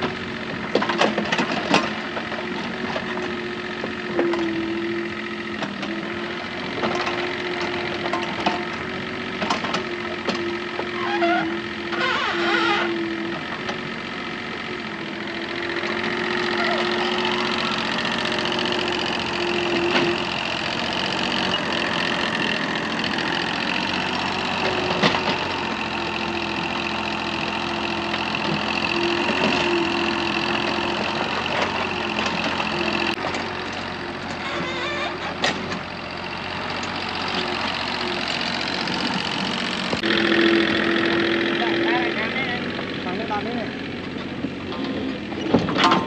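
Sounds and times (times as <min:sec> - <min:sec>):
engine humming steadily: 0:00.0 - 0:46.0.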